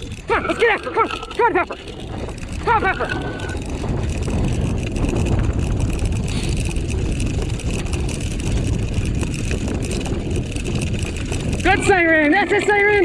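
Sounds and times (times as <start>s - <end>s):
wheels rumbling on ground: 0.0s - 13.0s
wind on microphone: 0.0s - 13.0s.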